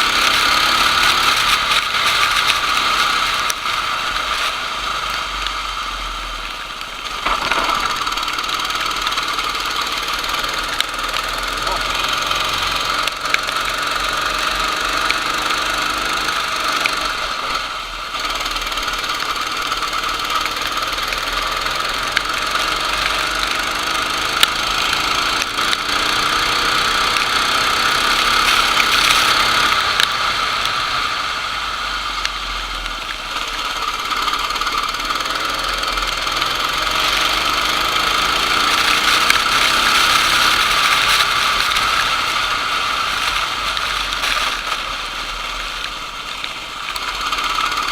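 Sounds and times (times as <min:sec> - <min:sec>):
go-kart engine running: 0:00.0 - 0:47.9.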